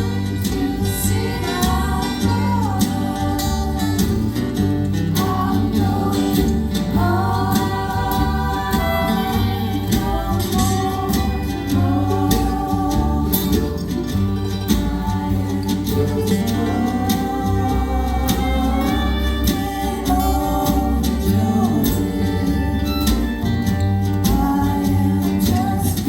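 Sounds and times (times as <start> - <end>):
folk band instruments: 0.0 - 26.0
people singing: 0.0 - 26.0.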